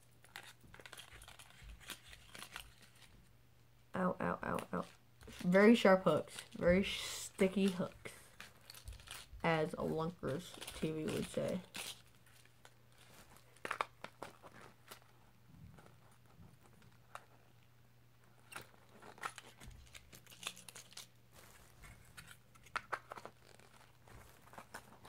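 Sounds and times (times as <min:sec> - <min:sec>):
packaging crinkling and rustling: 0:00.0 - 0:03.3, 0:04.2 - 0:25.0.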